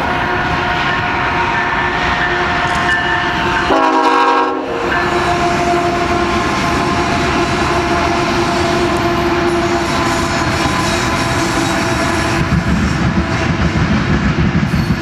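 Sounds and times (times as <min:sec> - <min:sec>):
locomotive air horn: 0:00.0 - 0:13.5
train wheels rumbling on rails: 0:00.0 - 0:15.0.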